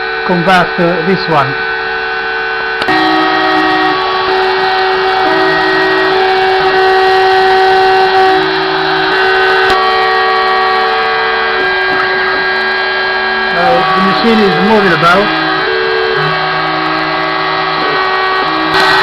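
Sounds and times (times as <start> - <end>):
axis motors whining: 0.0 - 19.0
router spindle running: 0.0 - 19.0.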